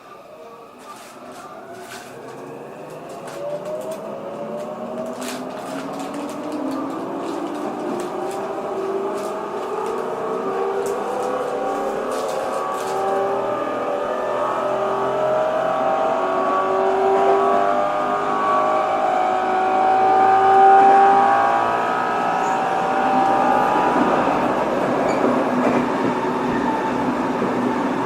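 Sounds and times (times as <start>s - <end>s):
train inverter whining: 0.0s - 28.0s
train running noise: 0.0s - 28.0s.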